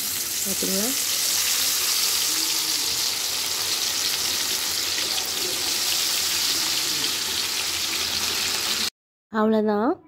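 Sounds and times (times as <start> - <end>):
food deep-frying in oil: 0.0 - 8.9.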